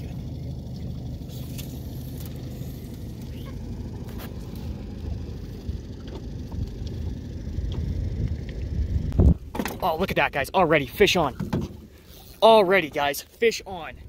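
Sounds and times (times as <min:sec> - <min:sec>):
boat motor rumbling: 0:00.0 - 0:14.0.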